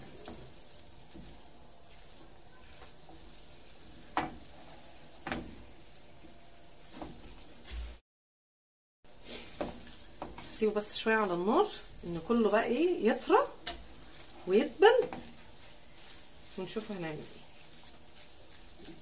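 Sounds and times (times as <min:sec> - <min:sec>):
vegetables sizzling in a frying pan: 0:00.0 - 0:08.0, 0:09.1 - 0:19.0.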